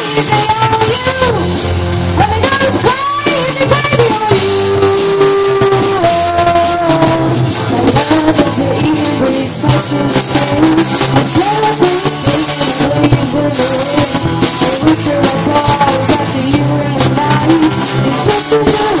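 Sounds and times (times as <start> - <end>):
woman singing: 0.0 - 1.5, 2.2 - 19.0
live rock band playing: 0.0 - 19.0.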